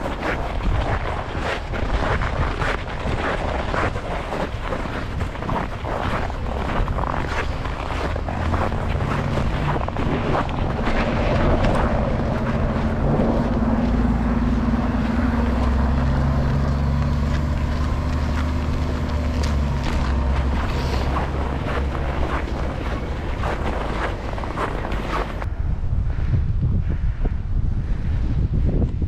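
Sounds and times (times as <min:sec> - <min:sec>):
bike clicks and knocks on snow: 0:00.0 - 0:25.5
low steady rumble: 0:00.0 - 0:29.0
wind buffeting microphone: 0:00.0 - 0:29.0.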